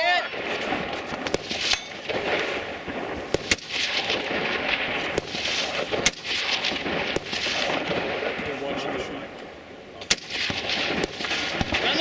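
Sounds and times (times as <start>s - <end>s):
outdoor background hiss: 0.0s - 12.0s
rifle shots: 0.2s - 9.2s, 10.0s - 12.0s.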